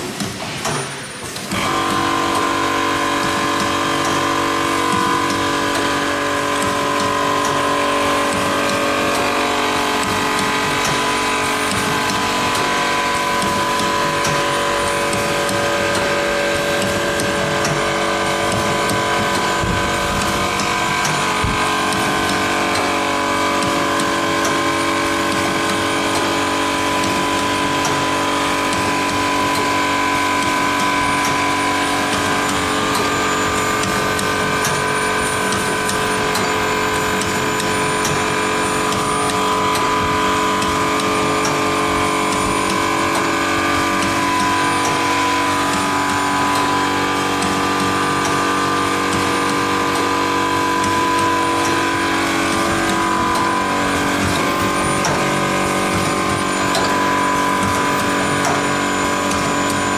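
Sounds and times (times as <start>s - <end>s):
machine whining tones: 0.0s - 59.9s
packing machine humming: 0.0s - 59.9s.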